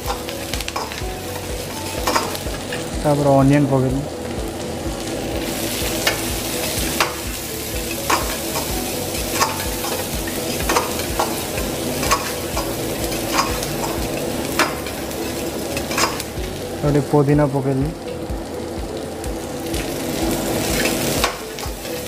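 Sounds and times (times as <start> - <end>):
onion sizzling in a pan: 0.0 - 22.0.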